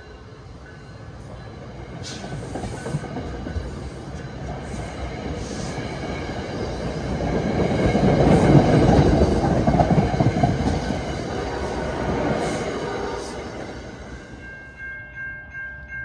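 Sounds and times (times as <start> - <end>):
train wheels rumbling on rails: 0.0 - 14.8.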